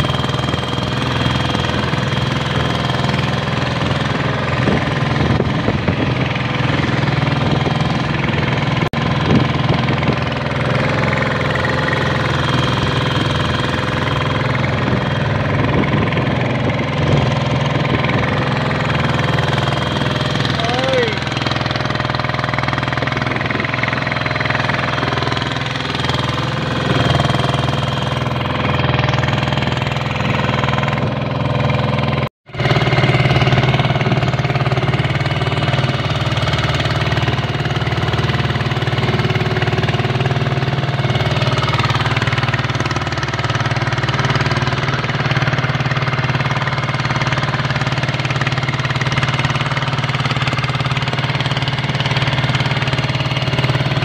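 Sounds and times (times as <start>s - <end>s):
boat engine knocking: 0.0s - 54.0s.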